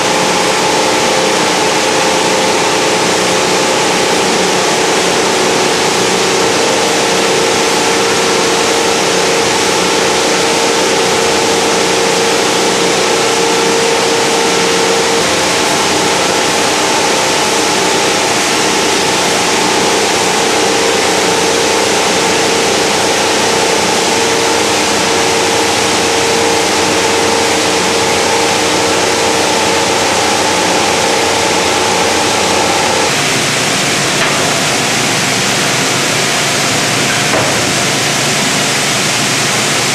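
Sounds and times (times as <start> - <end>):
steady motor hum: 0.0 - 39.9
water mill churning water and plastic: 0.0 - 39.9.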